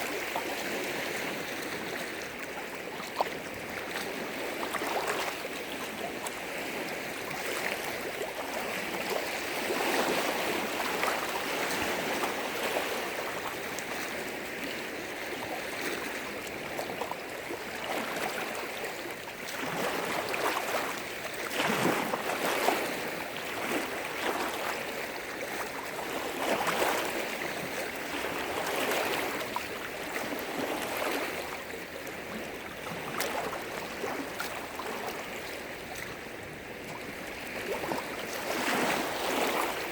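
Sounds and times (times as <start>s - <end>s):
lake waves splashing on shore: 0.0s - 39.9s.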